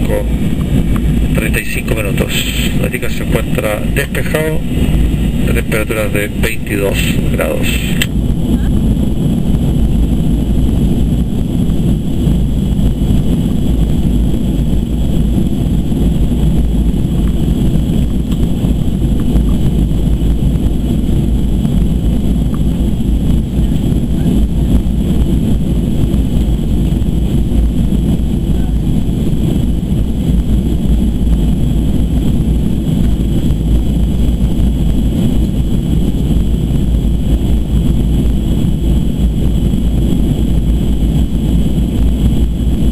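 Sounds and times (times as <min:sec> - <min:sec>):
airplane cabin roar: 0:00.0 - 0:42.9
jet engine high whine: 0:00.0 - 0:42.9
rushing airflow: 0:00.0 - 0:42.9.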